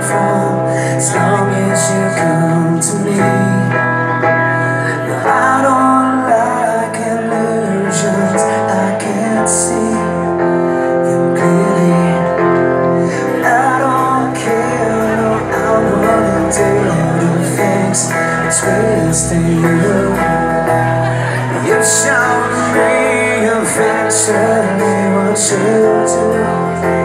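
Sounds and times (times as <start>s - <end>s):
live rock band playing: 0.0s - 27.0s
person singing: 0.0s - 27.0s.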